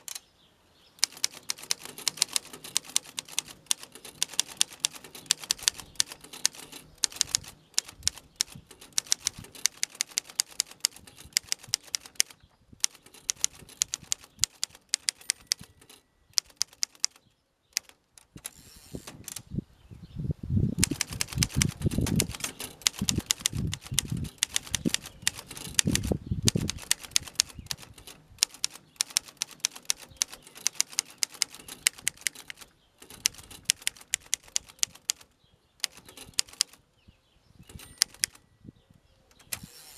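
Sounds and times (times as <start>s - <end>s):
typewriter keys striking: 1.0s - 17.2s, 17.8s - 18.5s, 20.8s - 36.8s, 37.7s - 38.4s.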